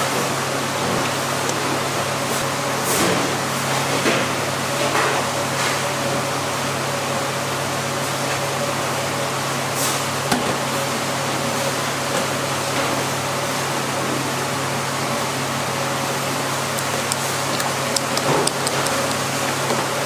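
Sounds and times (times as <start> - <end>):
kitchen ventilation fans humming: 0.0 - 20.0.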